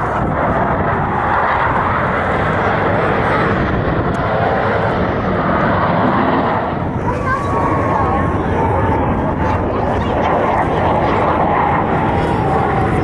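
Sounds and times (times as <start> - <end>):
jets flying over: 0.0 - 13.0.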